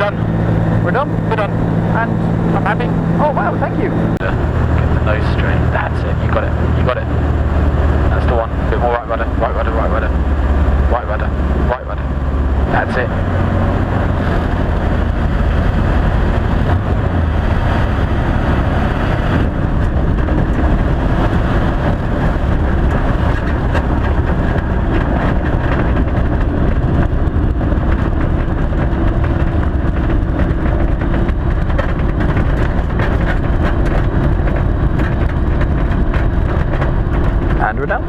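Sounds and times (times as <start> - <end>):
aircraft engine and propeller: 0.0 - 38.0.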